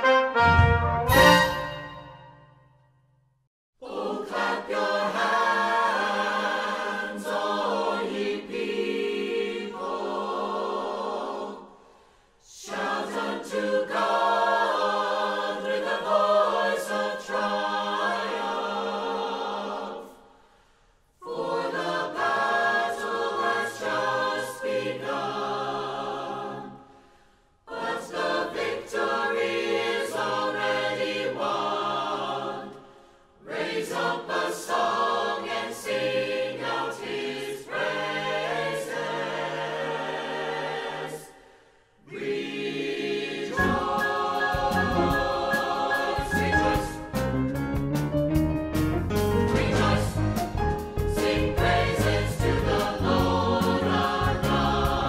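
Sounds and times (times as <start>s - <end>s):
choir singing: 0.0s - 2.6s, 3.8s - 20.6s, 21.2s - 47.3s, 49.3s - 55.0s.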